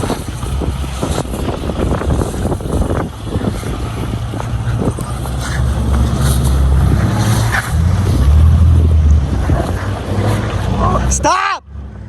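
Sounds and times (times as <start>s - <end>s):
wind buffeting microphone: 0.0s - 11.2s
engine running at low revs: 0.0s - 12.0s.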